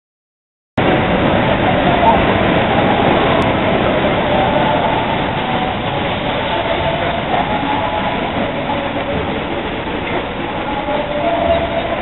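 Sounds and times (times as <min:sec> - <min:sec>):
rain hiss: 0:00.8 - 0:12.0
faint voices: 0:00.9 - 0:12.0.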